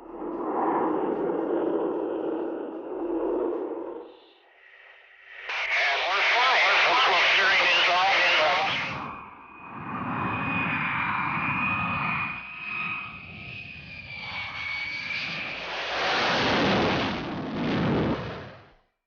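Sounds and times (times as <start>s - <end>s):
jet engine turbine whine: 0.0s - 18.5s
jet engine rushing noise: 0.0s - 18.7s.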